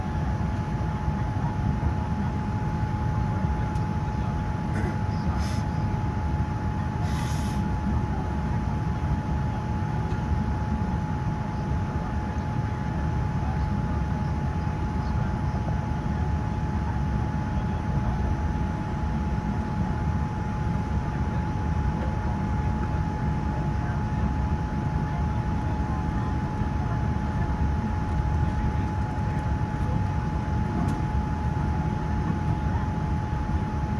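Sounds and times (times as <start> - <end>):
aircraft cabin rumble: 0.0 - 33.9
mid-pitched hum: 0.0 - 33.9.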